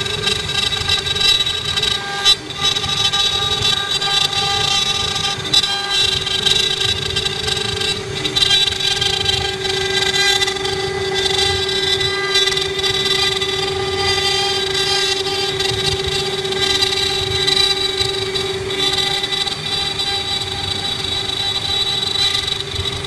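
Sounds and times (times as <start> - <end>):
router spindle whine: 0.0 - 23.0.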